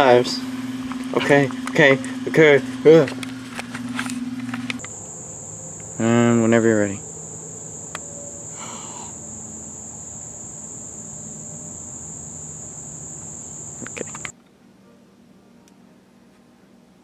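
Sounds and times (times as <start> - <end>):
insects buzzing: 0.0 - 14.3.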